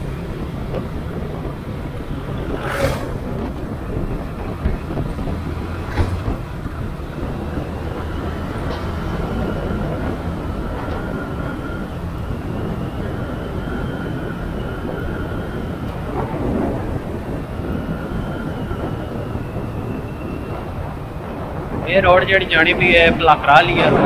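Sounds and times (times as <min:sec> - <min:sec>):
motorcycle engine rumble: 0:00.0 - 0:24.0
road noise: 0:00.0 - 0:24.0.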